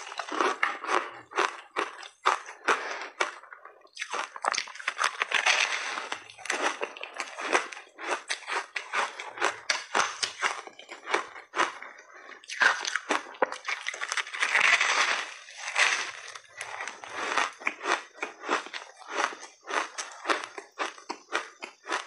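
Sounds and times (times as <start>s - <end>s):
crunching frozen ice: 0.0s - 22.0s.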